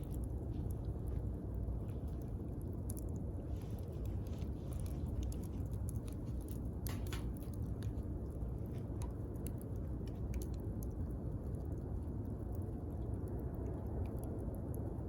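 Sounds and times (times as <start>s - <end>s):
campfire crackling: 0.0s - 15.0s
steady low rumble: 0.0s - 15.0s.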